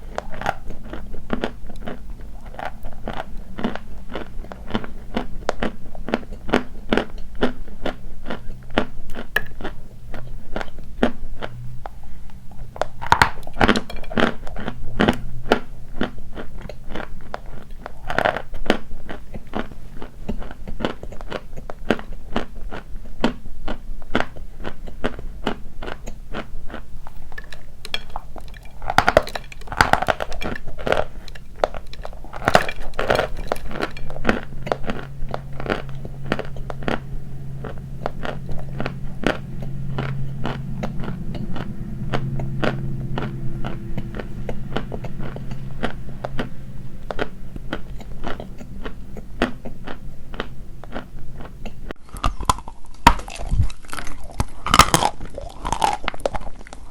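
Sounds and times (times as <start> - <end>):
chalk being chewed: 0.0 - 52.6.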